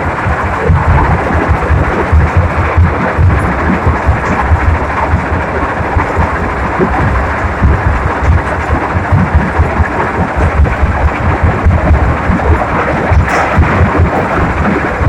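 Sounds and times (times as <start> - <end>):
heavy machine engine rumbling: 0.0 - 15.0.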